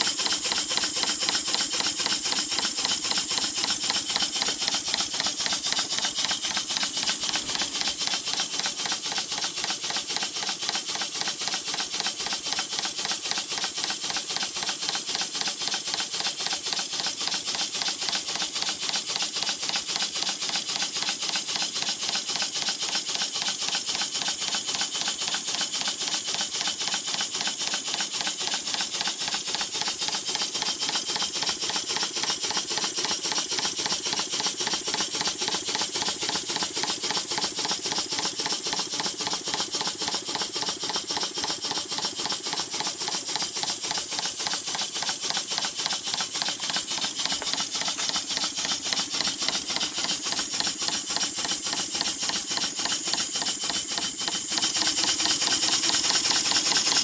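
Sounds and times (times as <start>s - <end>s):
steam engine chuffing: 0.0s - 57.0s.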